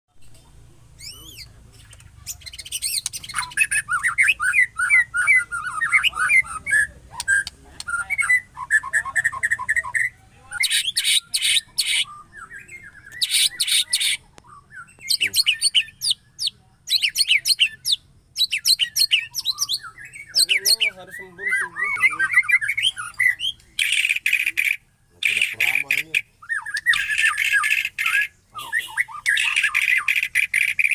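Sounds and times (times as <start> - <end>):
harsh rasping bird calls: 0.9 - 30.9
bird whistling and trilling: 1.0 - 1.5, 2.2 - 30.9.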